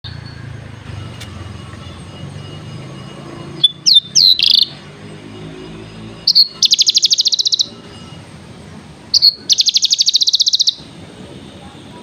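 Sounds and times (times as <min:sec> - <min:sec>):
bird singing chirps and trill: 0:00.1 - 0:08.4, 0:09.0 - 0:10.9.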